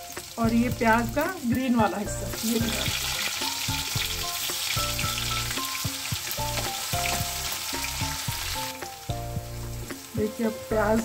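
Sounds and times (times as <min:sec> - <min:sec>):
background music with bass line: 0:00.0 - 0:11.0
garlic and onion sizzling in oil: 0:00.0 - 0:11.0.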